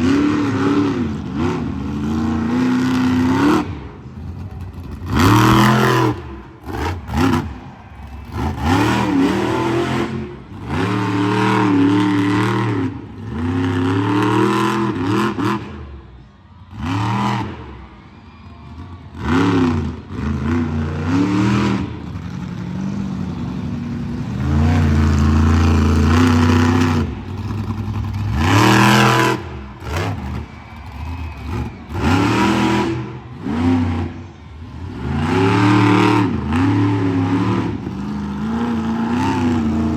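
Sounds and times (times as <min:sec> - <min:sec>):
truck engine revving: 0:00.0 - 0:18.0, 0:18.6 - 0:39.9.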